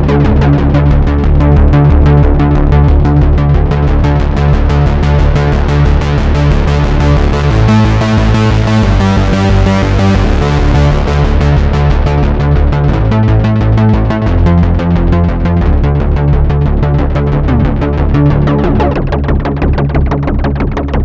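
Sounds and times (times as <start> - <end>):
deep synth bass line: 0.0 - 21.0
synthesizer pulsing repeated notes: 0.0 - 21.0.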